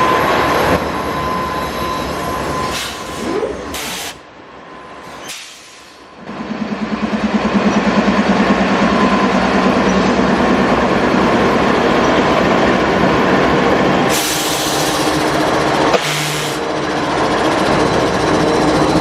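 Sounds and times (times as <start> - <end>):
freight train passing: 0.0 - 19.0.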